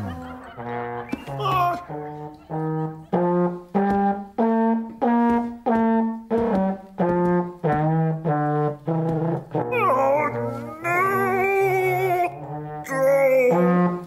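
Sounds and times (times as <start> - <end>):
trombone notes: 0.0 - 14.0.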